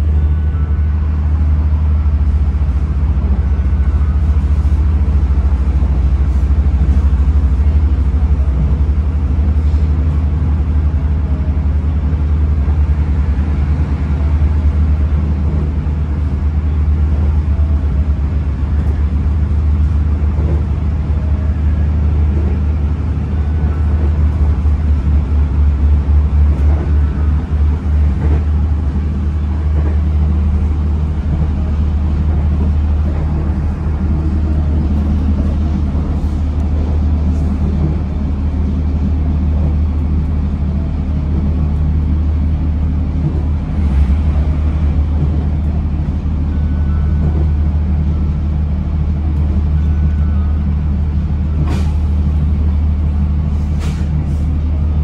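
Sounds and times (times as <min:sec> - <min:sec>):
diesel train running hum: 0:00.0 - 0:55.0.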